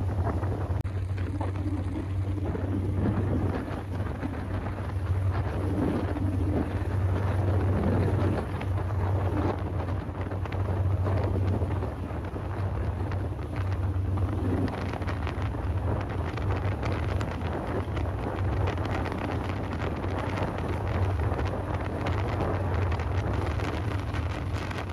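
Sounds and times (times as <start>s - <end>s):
boat engine droning: 0.0s - 24.9s
wind buffeting microphone: 0.0s - 24.9s.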